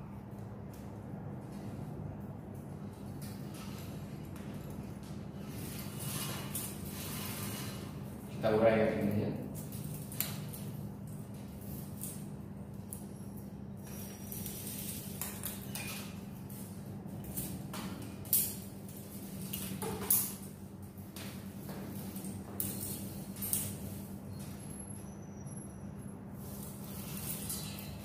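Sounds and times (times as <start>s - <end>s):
cables clicking and rustling: 0.1s - 25.1s.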